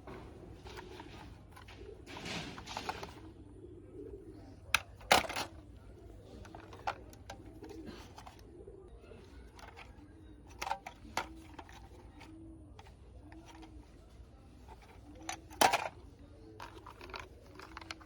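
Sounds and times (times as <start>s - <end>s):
bird cooing: 0.0s - 18.0s.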